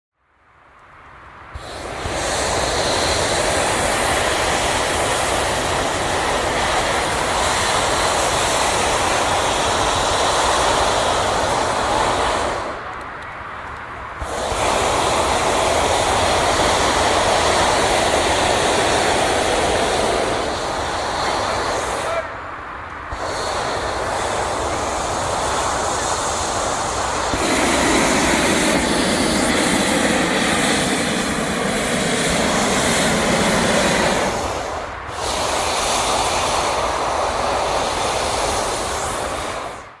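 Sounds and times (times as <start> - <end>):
propane burner hissing: 1.4 - 40.0.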